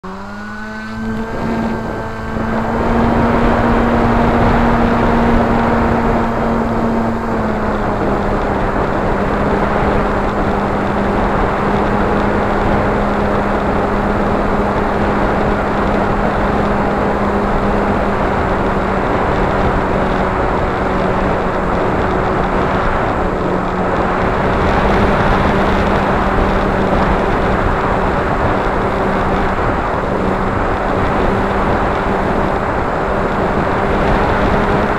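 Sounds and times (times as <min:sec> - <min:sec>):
motor and propeller whine: 0:00.0 - 0:34.9
wind rush: 0:00.4 - 0:34.9.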